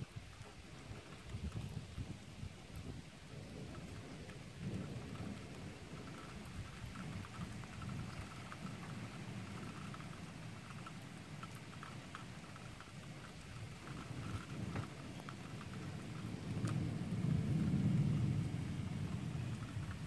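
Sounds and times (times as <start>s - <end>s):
low roll of thunder: 0.0s - 10.4s, 13.3s - 20.0s
heavy rain: 0.0s - 20.0s
raindrops ticking close by: 0.0s - 20.0s.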